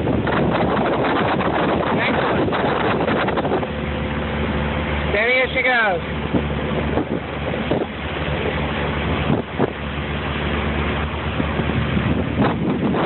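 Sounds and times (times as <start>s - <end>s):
motorboat engine humming: 0.0s - 13.0s
water rushing past: 0.0s - 13.0s
wind buffeting microphone: 0.0s - 13.0s.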